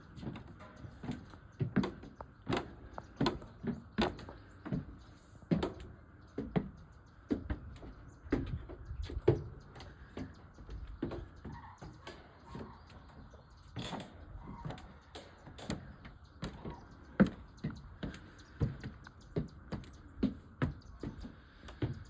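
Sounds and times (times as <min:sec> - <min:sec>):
footsteps on stairs: 0:00.0 - 0:22.0.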